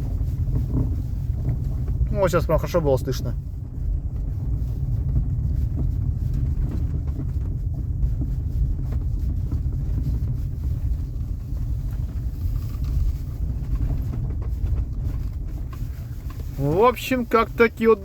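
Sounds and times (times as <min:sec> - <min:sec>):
cabin road noise rumble: 0:00.0 - 0:18.0.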